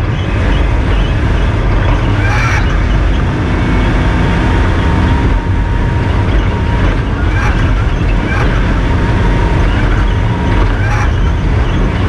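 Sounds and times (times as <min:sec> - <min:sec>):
car engine running hard: 0:00.0 - 0:12.0
tyres rumbling on gravel: 0:00.0 - 0:12.0.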